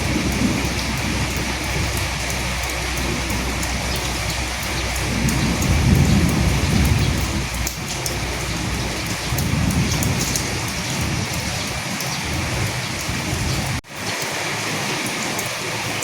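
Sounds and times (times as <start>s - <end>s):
thunder rumbling: 0.0s - 13.9s
raindrops ticking: 0.0s - 16.0s
steady rain falling: 0.0s - 16.0s.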